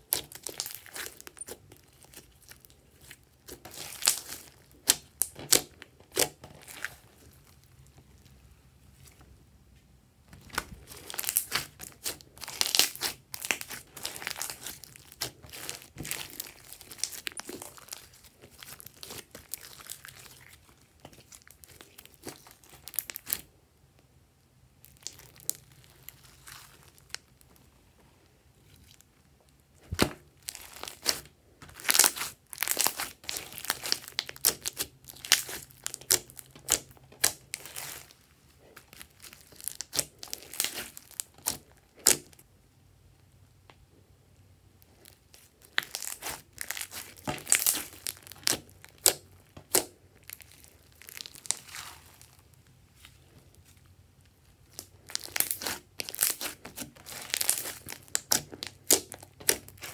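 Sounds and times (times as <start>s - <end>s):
slime crackling and popping: 0.0s - 8.4s, 10.3s - 23.5s, 24.8s - 27.7s, 29.7s - 42.4s, 44.8s - 52.7s, 54.4s - 59.9s.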